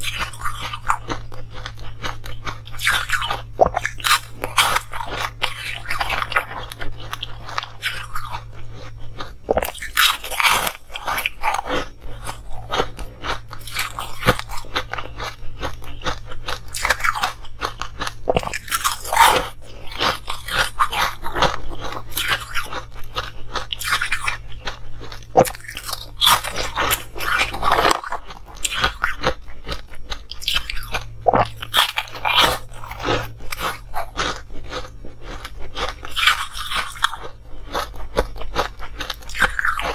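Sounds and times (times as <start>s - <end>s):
faint low hum: 0.0s - 39.9s
ice crunching and chewing: 0.0s - 39.9s.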